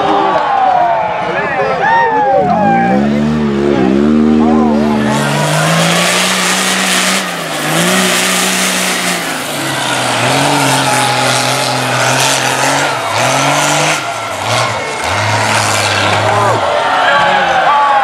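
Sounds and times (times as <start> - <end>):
off-road truck engines revving: 2.2 - 18.0.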